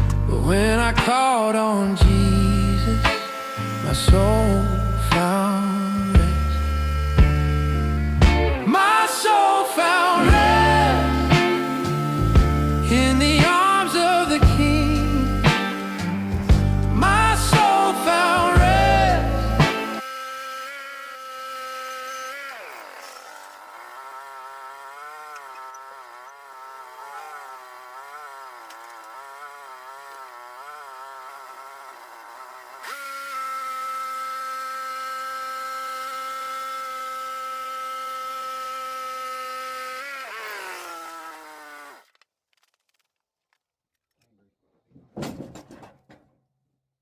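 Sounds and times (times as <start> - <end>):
sawmill machinery whining: 0.0 - 42.7.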